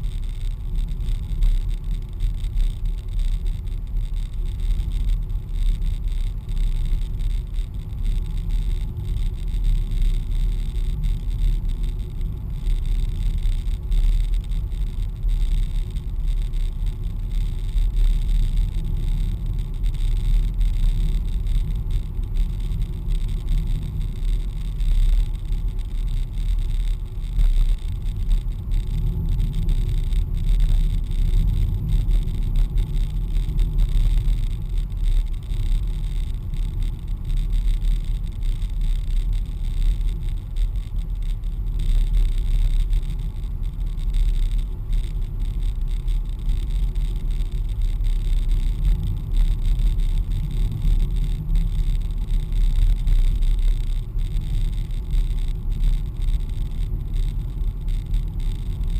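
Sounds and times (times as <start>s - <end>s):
car engine and road noise: 0.0s - 58.9s.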